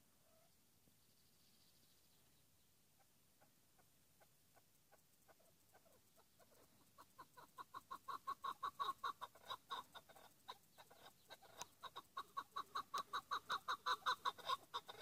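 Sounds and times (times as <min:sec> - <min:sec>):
partridge clucking calls: 0:03.0 - 0:15.0.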